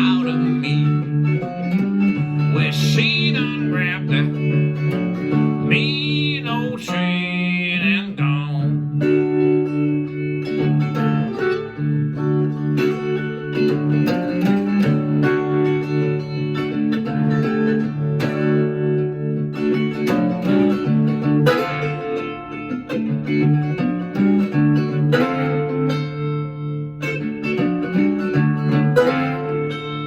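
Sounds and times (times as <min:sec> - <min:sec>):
blues guitar playing: 0:00.0 - 0:30.0.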